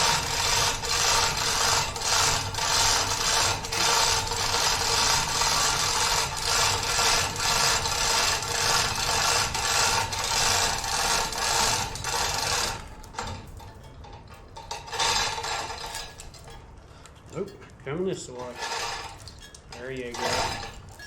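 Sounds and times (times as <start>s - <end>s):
hand tool scraping metal: 0.0s - 13.8s, 14.6s - 16.6s, 18.4s - 21.0s.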